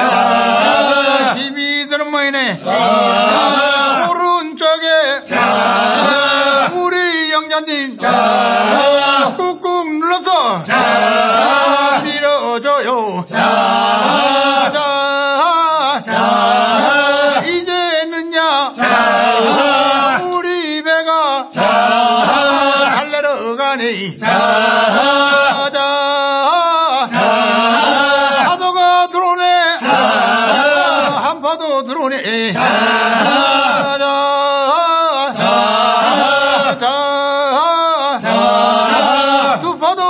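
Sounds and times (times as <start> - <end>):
men chanting work song: 0.0 - 40.0.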